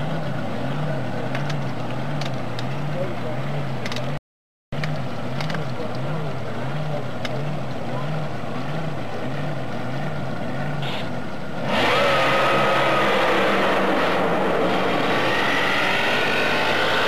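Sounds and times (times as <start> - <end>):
engine surging with rising whine: 0.0 - 4.2, 4.8 - 17.0
motorboat engine droning: 0.0 - 4.2, 4.8 - 17.0.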